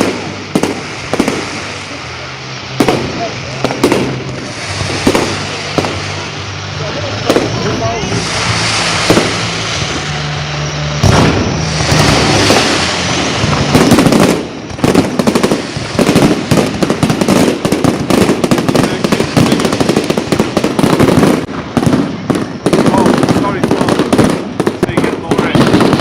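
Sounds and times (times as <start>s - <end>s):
fireworks bangs and crackles: 0.0s - 26.0s
fireworks hissing crackle: 0.0s - 26.0s.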